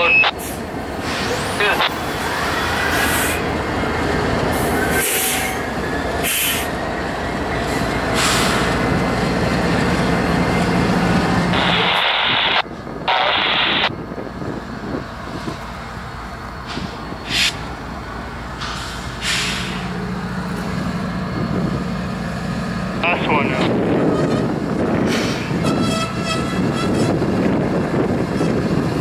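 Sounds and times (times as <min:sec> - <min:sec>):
diesel locomotive engine: 0:00.0 - 0:29.0
freight cars rumbling: 0:00.0 - 0:29.0.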